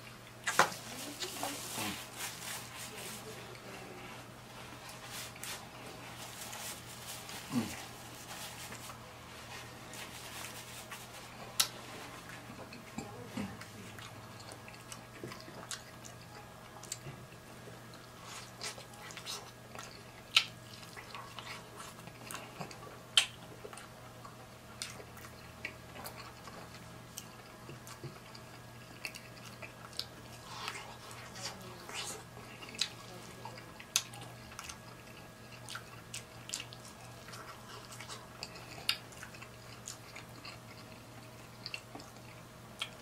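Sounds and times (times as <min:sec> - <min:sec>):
faint steady hum: 0:00.0 - 0:43.0
person chewing and crunching food: 0:00.0 - 0:43.0.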